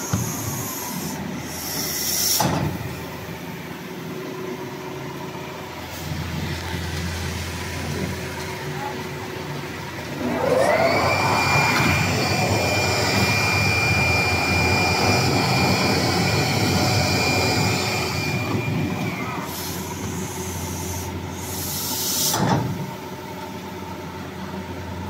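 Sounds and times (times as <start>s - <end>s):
motor whine: 0.0s - 22.1s.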